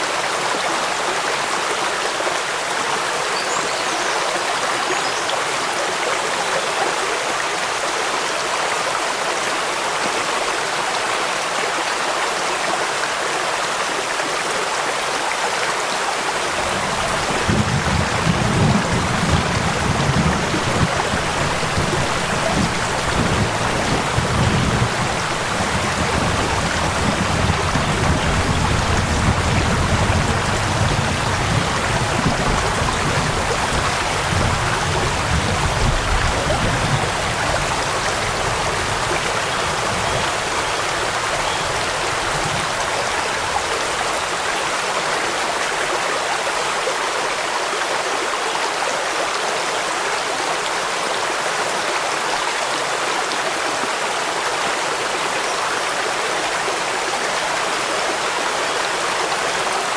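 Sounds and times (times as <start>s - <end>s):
falling rain: 0.0s - 59.9s
low rumble of rushing water: 0.0s - 59.9s
stream running over rocks: 0.0s - 59.9s.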